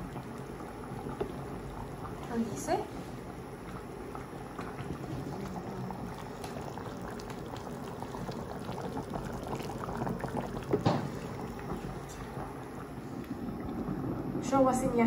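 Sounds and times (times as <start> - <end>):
curry bubbling in a pot: 0.0 - 15.0.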